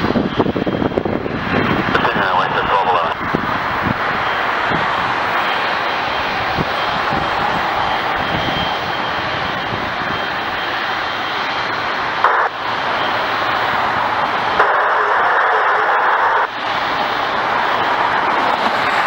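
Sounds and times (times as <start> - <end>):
jet airliner engine rush: 0.0 - 19.0.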